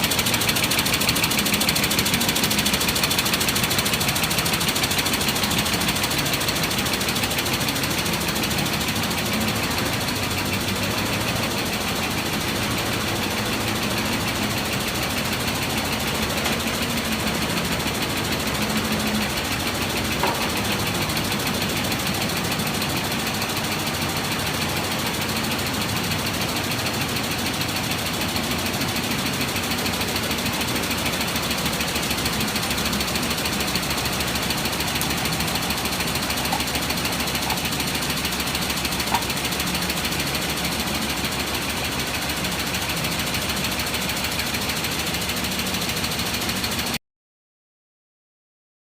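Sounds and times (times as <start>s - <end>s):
quilting machine clattering: 0.0s - 47.0s.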